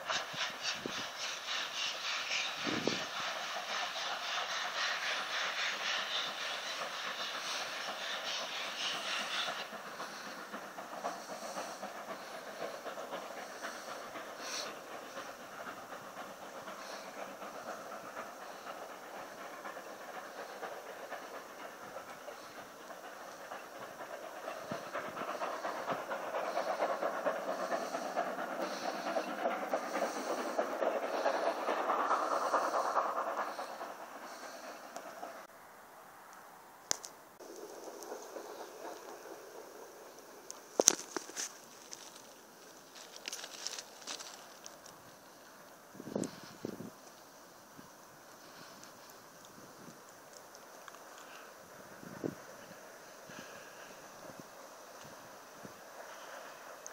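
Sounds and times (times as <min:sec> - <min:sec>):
train wheel clatter: 0:00.0 - 0:35.5, 0:36.9 - 0:56.9
steam hiss: 0:00.0 - 0:56.9
steam train chugging: 0:00.0 - 0:56.9.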